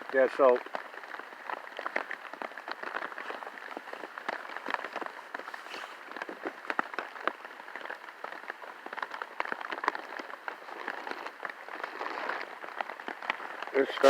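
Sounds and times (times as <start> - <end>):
raindrops tapping on a surface: 0.0 - 14.0.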